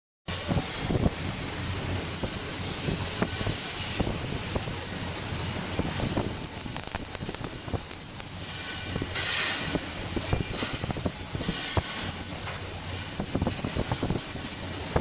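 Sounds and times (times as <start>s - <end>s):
low electrical hum: 0.3s - 15.0s
welding arc crackling: 0.3s - 15.0s.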